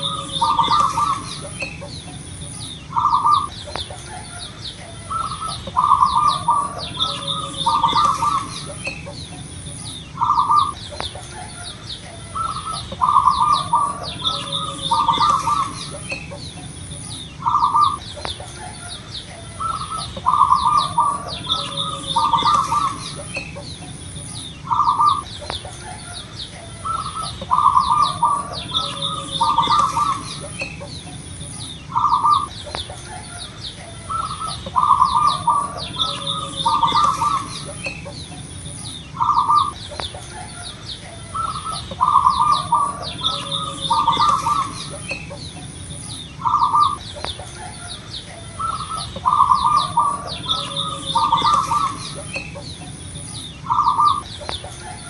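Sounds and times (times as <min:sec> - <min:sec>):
doves cooing: 0:00.0 - 0:55.0
small birds chirping: 0:00.0 - 0:55.0.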